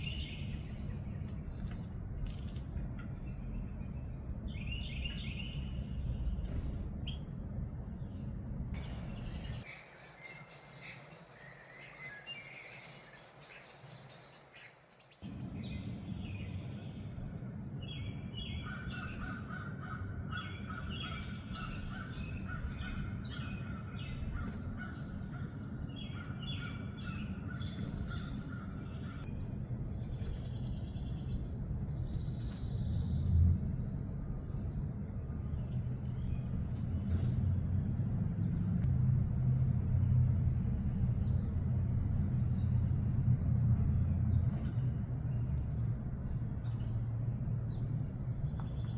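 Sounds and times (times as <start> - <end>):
steady low rumble: 0.0 - 12.2, 15.2 - 48.9
birds calling: 0.0 - 38.9, 42.5 - 48.9.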